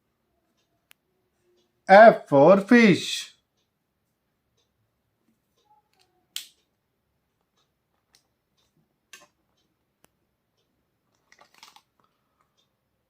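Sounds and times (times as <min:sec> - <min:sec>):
faint clicks and taps: 0:00.4 - 0:01.8, 0:03.4 - 0:12.8.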